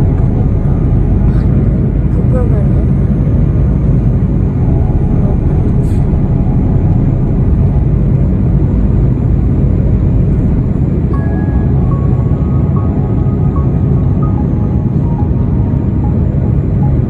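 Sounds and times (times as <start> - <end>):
airplane engines rumbling: 0.0 - 17.0.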